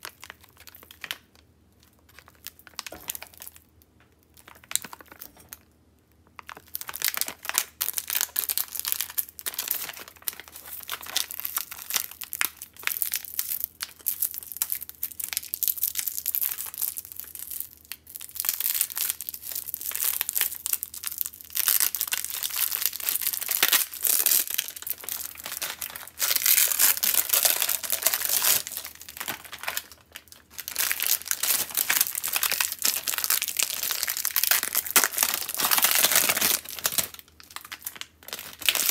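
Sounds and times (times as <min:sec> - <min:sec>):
plastic film crinkling: 0:00.0 - 0:05.6, 0:06.2 - 0:38.9.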